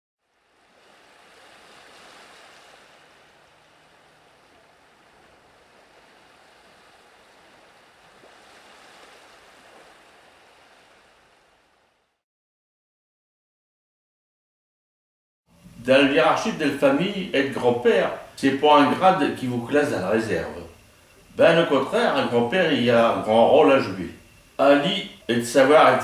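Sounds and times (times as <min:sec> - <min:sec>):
faint sea surf: 0:00.2 - 0:12.2, 0:15.5 - 0:26.0.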